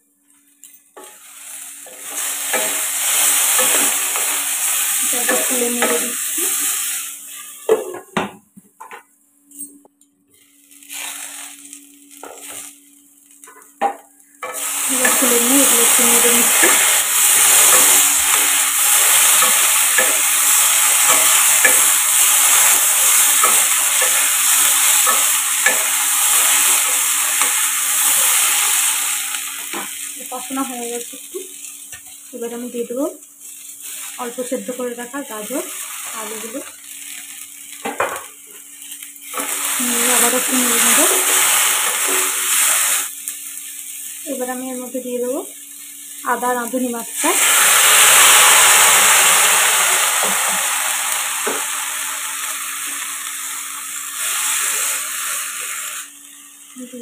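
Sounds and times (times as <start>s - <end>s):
vegetables sizzling in oil: 0.3s - 8.0s, 10.3s - 57.0s.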